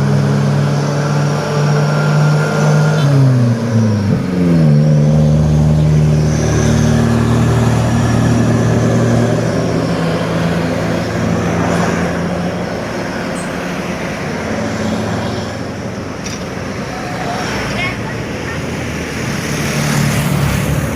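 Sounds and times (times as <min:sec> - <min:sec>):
diesel truck engine pulling: 0:00.0 - 0:20.9
road noise: 0:00.0 - 0:20.9.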